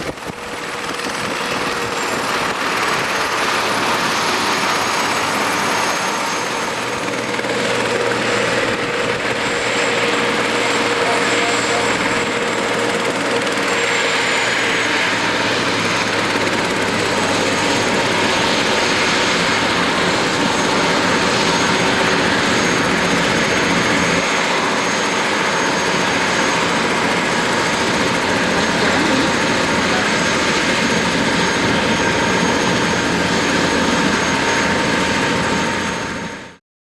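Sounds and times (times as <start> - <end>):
helicopter rotor and engine noise: 0.0 - 36.6.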